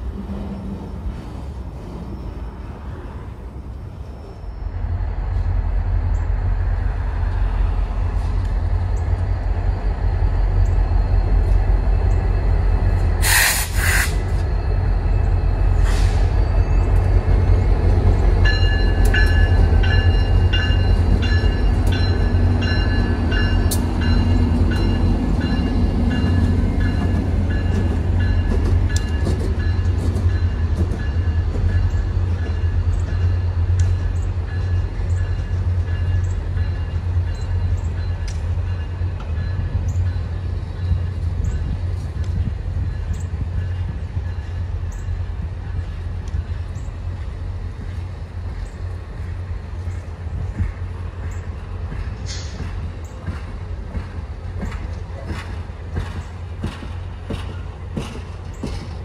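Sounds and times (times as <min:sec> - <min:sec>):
diesel train passing: 0:00.0 - 0:59.0.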